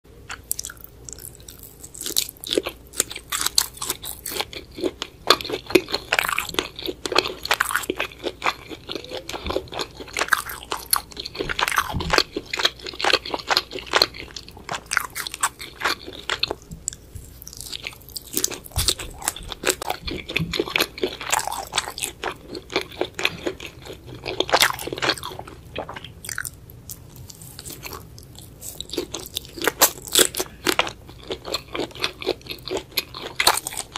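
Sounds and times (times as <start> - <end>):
close-miked biting and chewing: 0.3 - 33.9.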